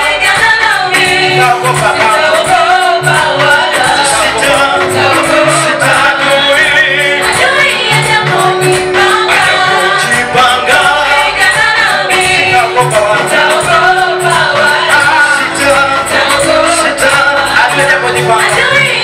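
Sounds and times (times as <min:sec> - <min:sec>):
bass line: 0:00.0 - 0:19.0
choir singing gospel song: 0:00.0 - 0:19.0
drum and cymbal beat: 0:00.0 - 0:19.0.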